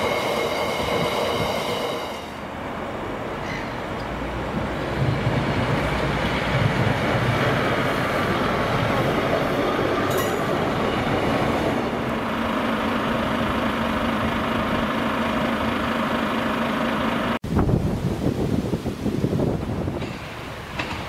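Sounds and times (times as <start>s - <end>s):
diesel train passing: 0.0s - 17.4s, 19.3s - 21.0s.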